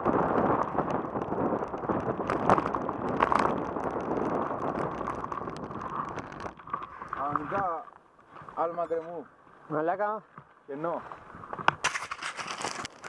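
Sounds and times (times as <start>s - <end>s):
bicycle tyres rumbling on gravel: 0.0s - 13.0s
stones and bike rattling: 0.0s - 13.0s.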